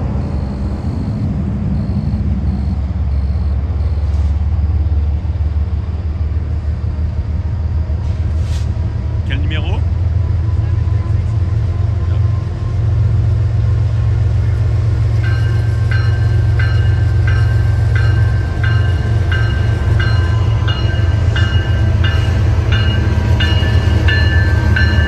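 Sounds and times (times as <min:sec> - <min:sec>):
diesel locomotives rumbling: 0:00.0 - 0:25.0.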